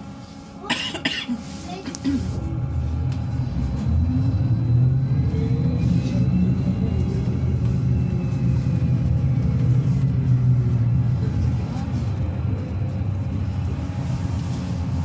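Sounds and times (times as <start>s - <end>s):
trolleybus running gear rumble: 0.6s - 15.0s.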